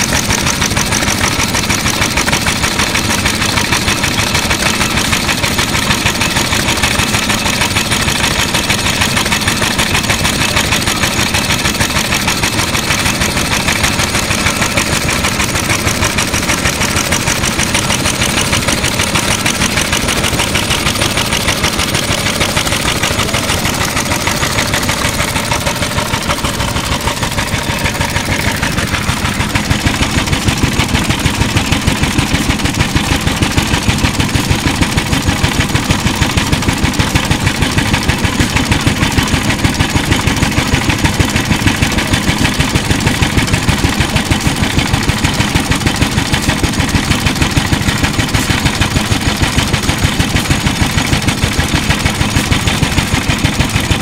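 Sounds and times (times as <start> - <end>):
oil engine running steadily: 0.0 - 54.0.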